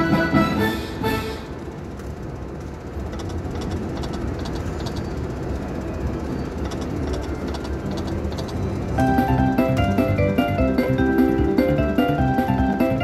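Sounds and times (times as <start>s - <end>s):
rumble of machines and crowd: 0.0s - 13.0s
slot machine reels clicking: 2.4s - 13.0s.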